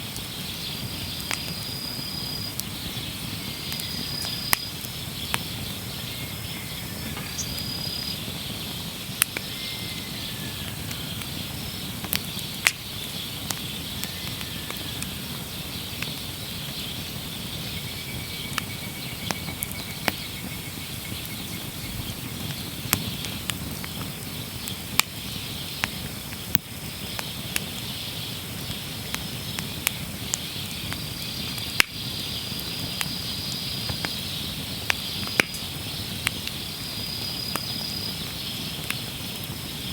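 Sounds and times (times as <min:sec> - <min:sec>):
insects chirring: 0:00.0 - 0:39.9
low flame rustle: 0:00.0 - 0:39.9
wood fire crackling and popping: 0:00.0 - 0:39.9.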